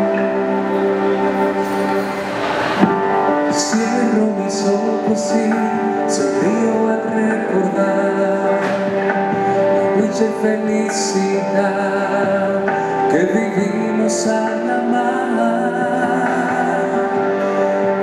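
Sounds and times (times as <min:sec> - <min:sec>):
sustained keyboard chords: 0:00.0 - 0:18.0.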